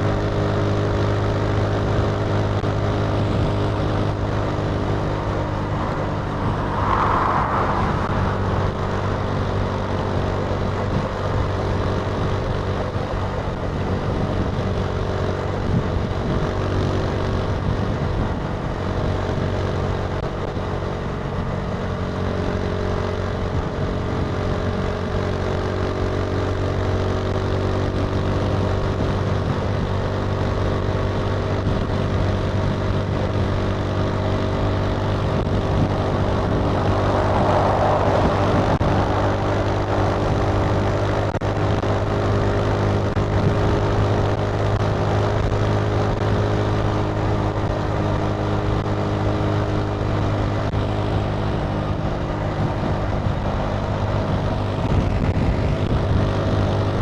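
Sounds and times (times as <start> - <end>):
motorcycle engine humming: 0.0 - 57.0
road noise: 0.0 - 57.0.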